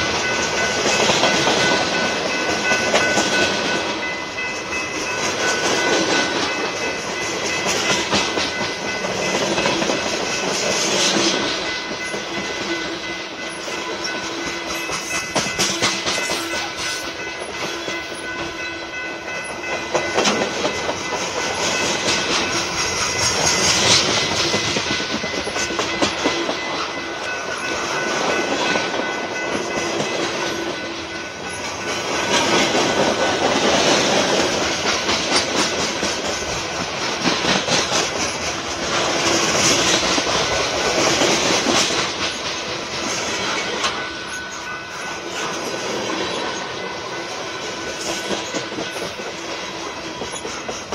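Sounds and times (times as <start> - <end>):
freight train rumbling: 0.0 - 50.9
wheels clacking over rail joints: 0.0 - 50.9.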